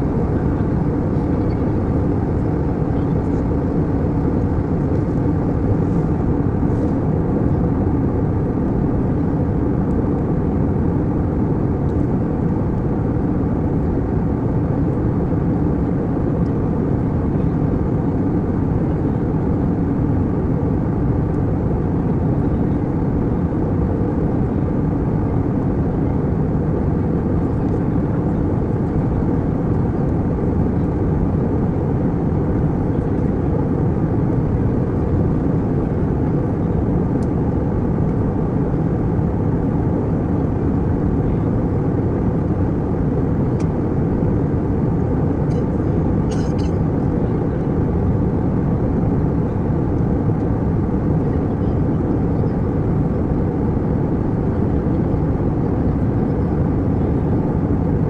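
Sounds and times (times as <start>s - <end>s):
jet cabin engine rumble: 0.0s - 58.0s.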